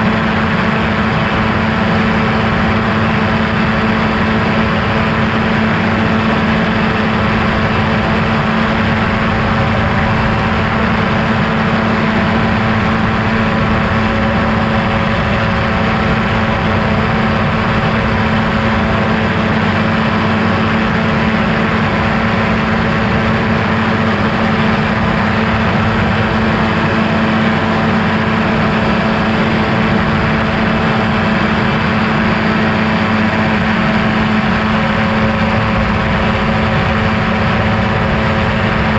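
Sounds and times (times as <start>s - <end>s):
aircraft engine drone: 0.0s - 38.9s
rushing wind: 0.0s - 38.9s.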